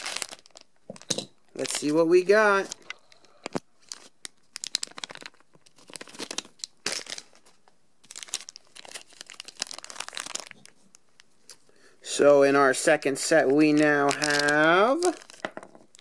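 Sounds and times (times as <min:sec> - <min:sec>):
plastic packet crinkling and tearing: 0:00.0 - 0:00.8, 0:01.6 - 0:11.6, 0:13.1 - 0:16.0.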